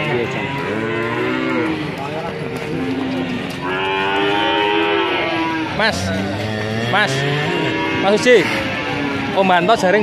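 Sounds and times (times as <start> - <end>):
long deep moo: 0.0 - 1.9, 2.6 - 9.8
cattle mooing: 0.0 - 10.0.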